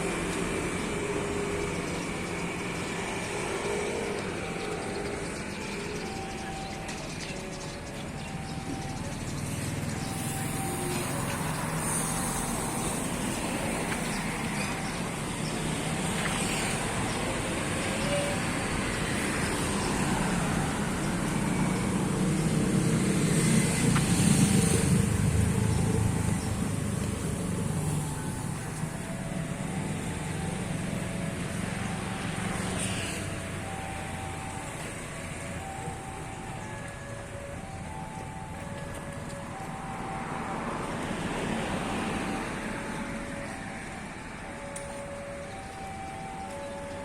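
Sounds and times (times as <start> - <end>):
street traffic: 0.0 - 47.0.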